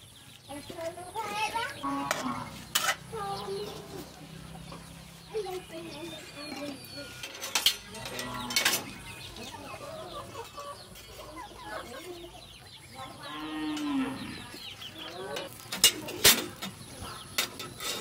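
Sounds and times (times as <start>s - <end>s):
chickens clucking: 0.1s - 18.0s.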